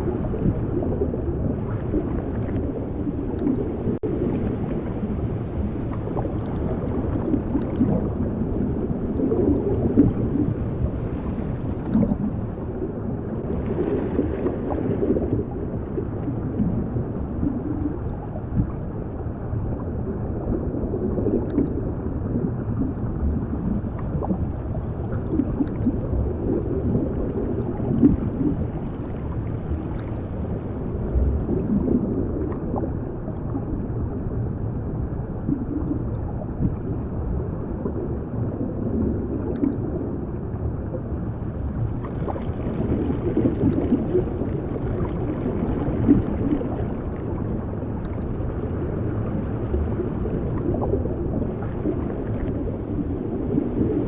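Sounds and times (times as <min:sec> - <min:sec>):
muffled underwater rumble: 0:00.0 - 0:54.0
water bubbling and gurgling: 0:00.0 - 0:54.0.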